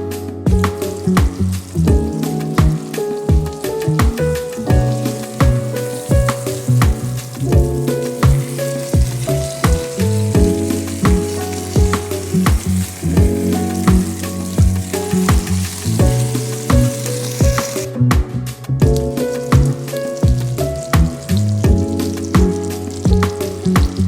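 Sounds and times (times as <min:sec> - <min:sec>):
background music with beat: 0:00.0 - 0:24.0
meat sizzling in pan: 0:00.5 - 0:17.9, 0:18.9 - 0:24.0.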